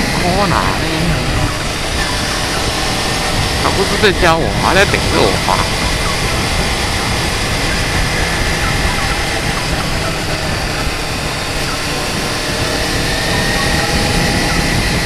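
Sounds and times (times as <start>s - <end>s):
motorcycle engine drone: 0.0s - 15.0s
wind and road noise: 0.0s - 15.0s.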